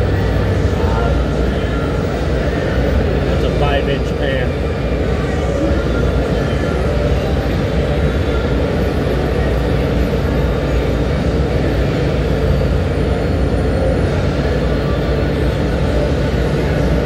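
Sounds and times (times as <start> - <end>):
furnace burners rumbling: 0.0 - 17.0
low hum: 0.0 - 17.0.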